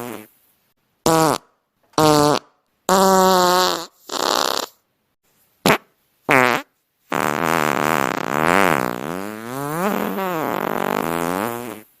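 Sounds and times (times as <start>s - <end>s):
fart sound effect: 0.0s - 0.3s, 1.1s - 4.8s, 5.6s - 11.9s.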